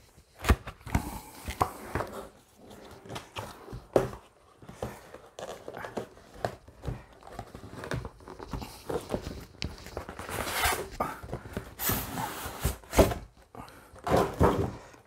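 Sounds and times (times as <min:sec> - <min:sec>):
cardboard box handled: 0:00.3 - 0:13.4.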